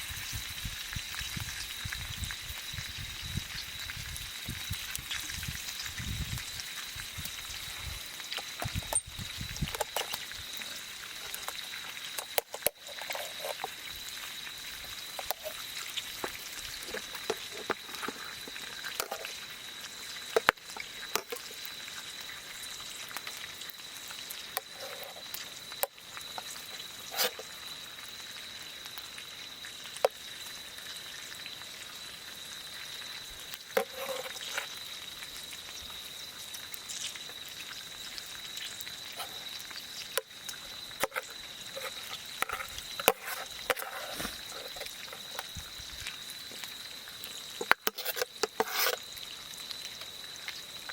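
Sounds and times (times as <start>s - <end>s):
steady hiss: 0.0s - 50.9s
campfire crackling and popping: 0.1s - 50.9s.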